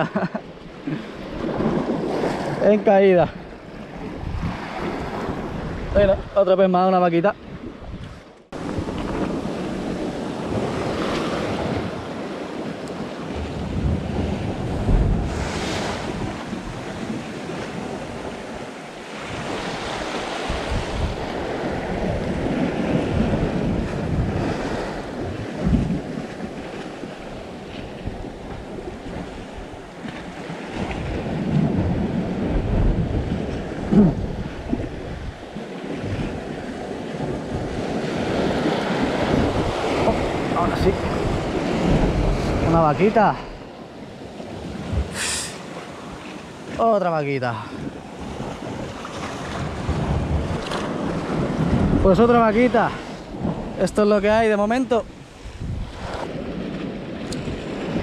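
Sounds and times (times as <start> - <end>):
sea waves washing: 0.0 - 58.0
wind buffeting microphone: 0.7 - 46.8, 47.4 - 58.0.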